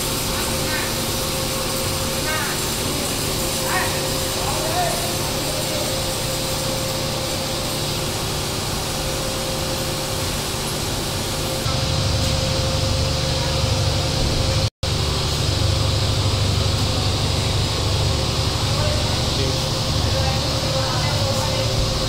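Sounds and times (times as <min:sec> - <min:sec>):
machinery running with hum: 0:00.0 - 0:22.0.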